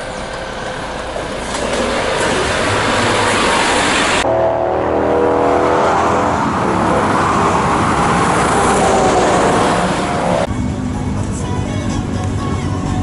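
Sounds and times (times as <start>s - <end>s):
other traffic: 0.0s - 13.0s
truck engine droning: 0.0s - 13.0s
tyre and road noise: 0.0s - 13.0s.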